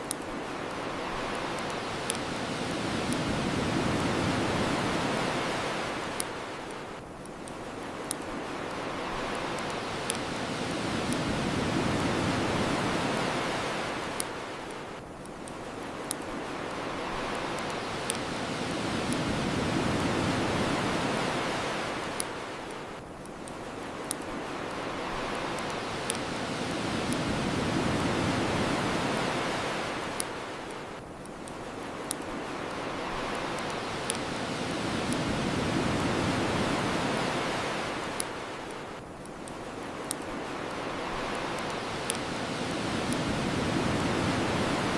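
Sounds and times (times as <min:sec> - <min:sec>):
bonfire crackling and popping: 0:00.0 - 0:44.9
ocean waves washing on shore: 0:00.0 - 0:44.9.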